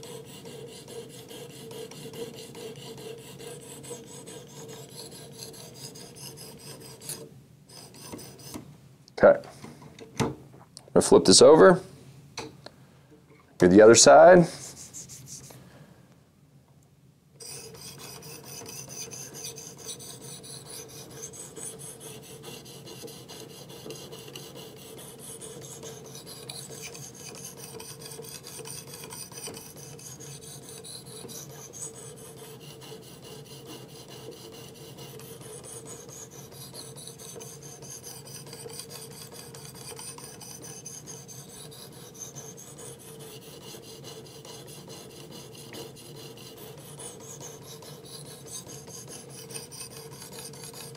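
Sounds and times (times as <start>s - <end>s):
knife sharpener rasping: 0.0s - 8.6s, 17.4s - 50.9s.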